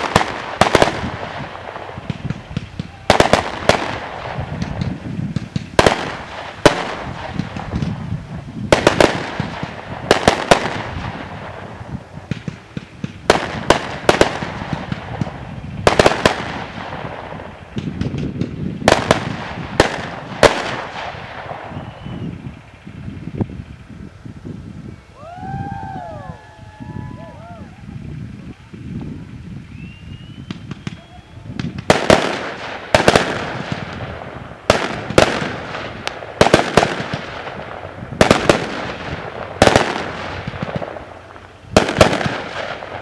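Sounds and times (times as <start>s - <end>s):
fireworks bangs echoing: 0.0s - 23.8s, 29.8s - 43.0s.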